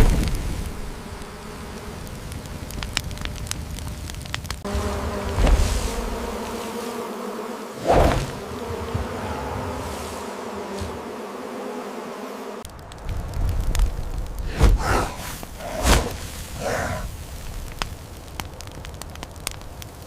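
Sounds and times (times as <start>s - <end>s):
bees buzzing: 0.0s - 3.4s, 4.6s - 17.3s.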